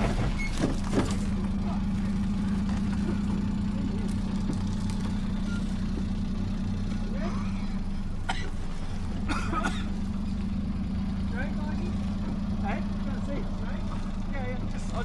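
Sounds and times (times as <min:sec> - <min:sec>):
small truck engine running: 0:00.0 - 0:15.0
truck knocks and rattles: 0:00.0 - 0:15.0.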